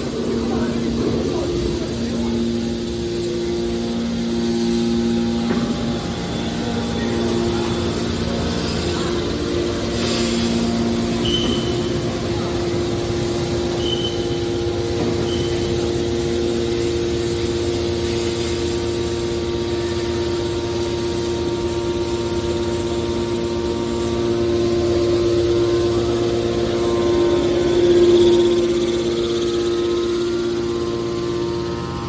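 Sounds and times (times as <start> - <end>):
hydraulic power unit humming: 0.0 - 32.0.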